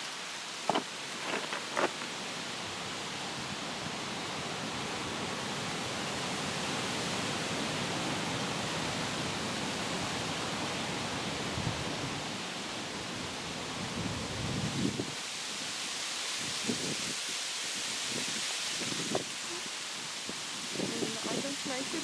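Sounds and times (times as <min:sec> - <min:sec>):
steady rushing hiss: 0:00.0 - 0:22.0.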